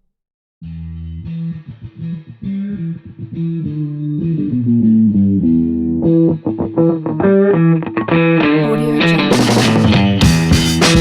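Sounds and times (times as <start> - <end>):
guitar and bass riff: 0.6 - 11.0.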